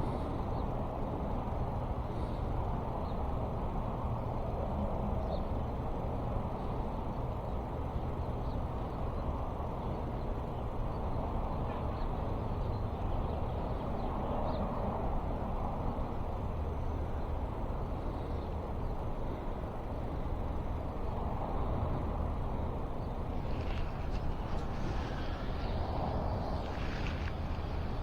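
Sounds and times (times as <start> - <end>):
steady low background noise: 0.0 - 28.0.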